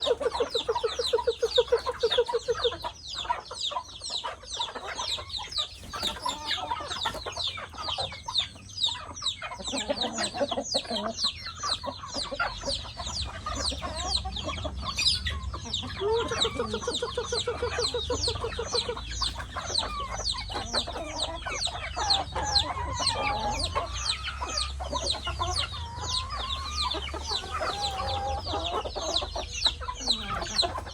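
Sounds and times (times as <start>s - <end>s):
chickens chirping: 0.0s - 30.9s
chickens clucking: 0.0s - 30.9s.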